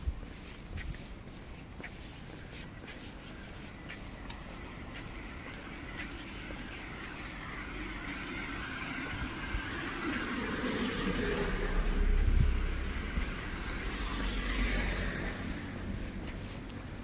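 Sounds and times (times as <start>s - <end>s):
city traffic hum: 0.0s - 17.0s
footsteps on pavement: 0.0s - 17.0s
vehicle approaching: 3.0s - 17.0s.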